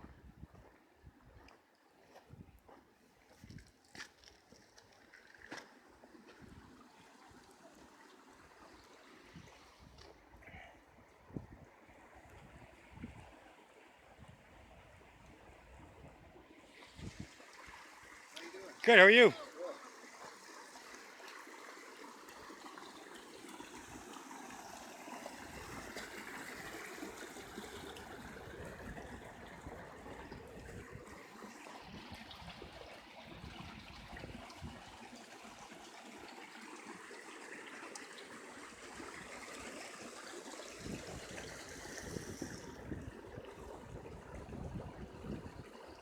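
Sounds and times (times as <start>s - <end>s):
water trickling in a stream: 0.0s - 46.0s.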